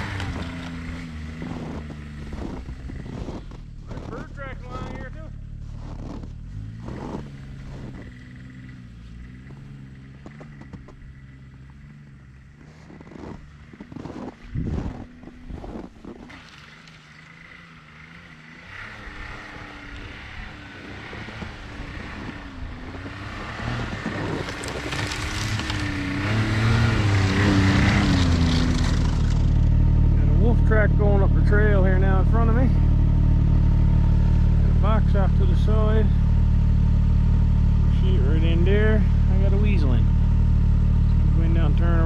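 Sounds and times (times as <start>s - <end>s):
snowmobile engine driving past: 0.0s - 42.0s.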